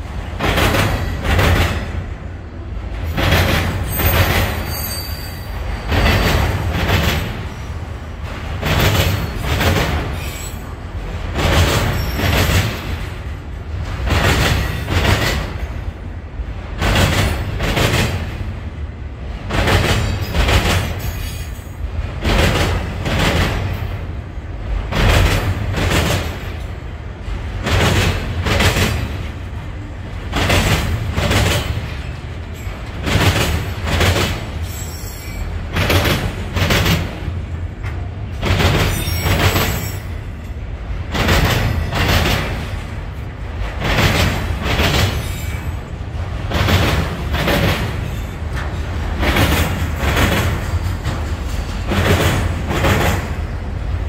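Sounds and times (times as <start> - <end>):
train wheels clacking over crossing: 0.0 - 54.0.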